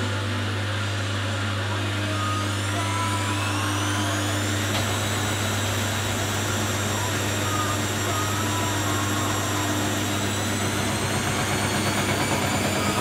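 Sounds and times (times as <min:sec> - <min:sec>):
appliance machine noise: 0:00.0 - 0:13.0
rising whine: 0:02.0 - 0:13.0.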